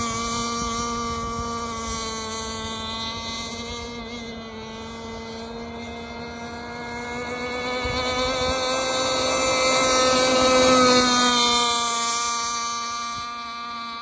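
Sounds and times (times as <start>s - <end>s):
model boat engine buzzing: 0.0s - 14.0s.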